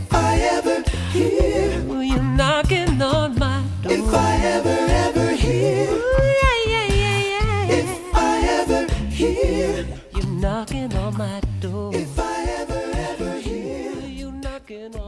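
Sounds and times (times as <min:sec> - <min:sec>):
bass line: 0:00.0 - 0:14.6
regular drum beat: 0:00.0 - 0:15.0
voices singing pop song: 0:00.0 - 0:15.0.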